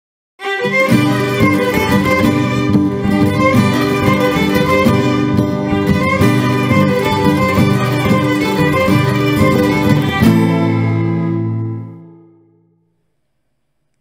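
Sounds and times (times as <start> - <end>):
instrumental music: 0.4 - 12.9.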